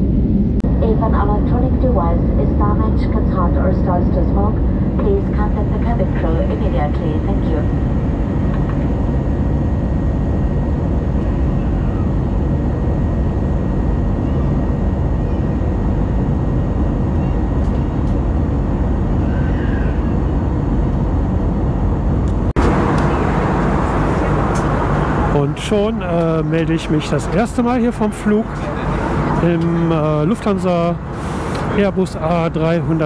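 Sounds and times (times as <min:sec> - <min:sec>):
jet engine and airflow rush: 0:00.0 - 0:33.0.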